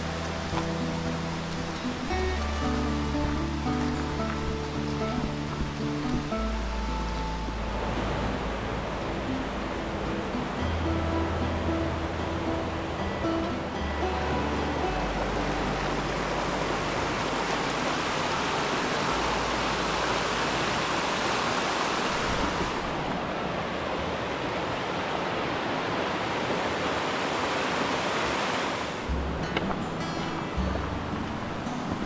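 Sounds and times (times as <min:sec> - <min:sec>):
creek rushing over rocks: 0:00.0 - 0:32.0.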